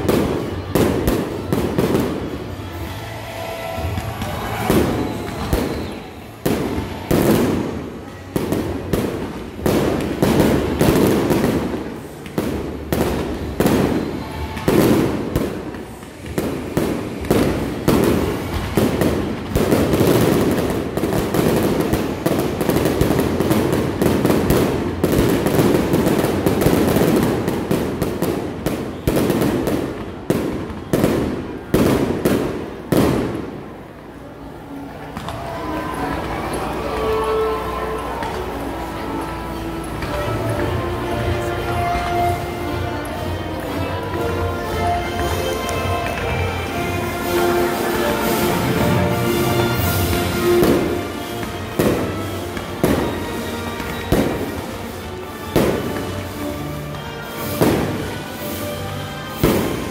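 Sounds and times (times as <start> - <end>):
fireworks bursting: 0.0 - 34.1, 36.4 - 59.9.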